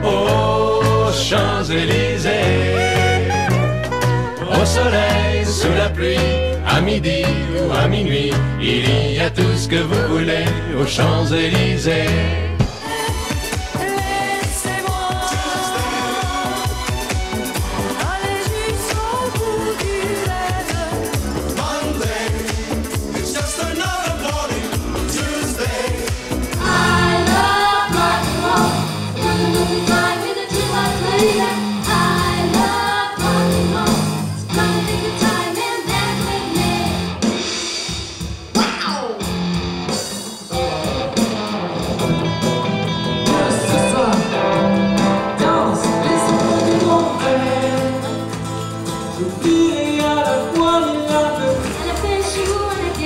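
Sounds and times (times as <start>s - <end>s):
pop song with band and singer: 0.0s - 53.0s.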